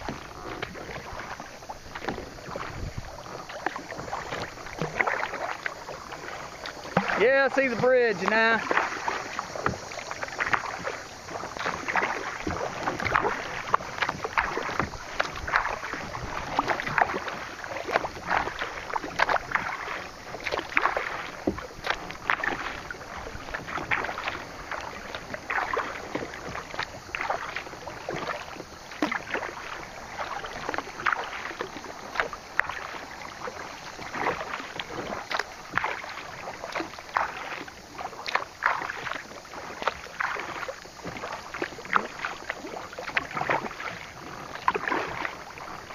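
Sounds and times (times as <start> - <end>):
paddle strokes splashing: 0.0 - 45.9
water lapping against hull: 0.0 - 45.9.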